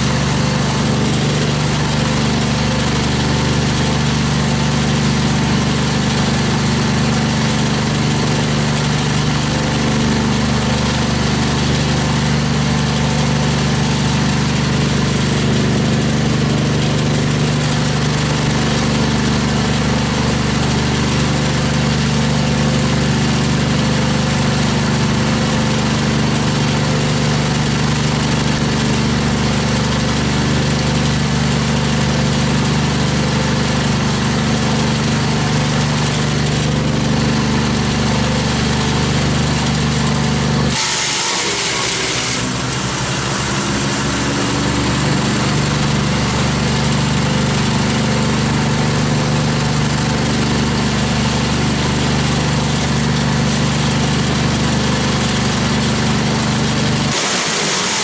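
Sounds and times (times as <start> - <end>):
wood chipper engine running: 0.0 - 58.0.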